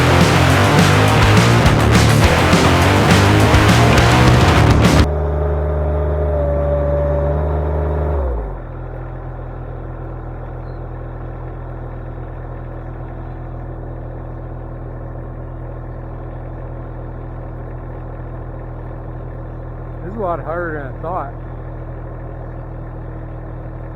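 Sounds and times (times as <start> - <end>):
skid steer engine revving and idling: 0.0 - 23.9.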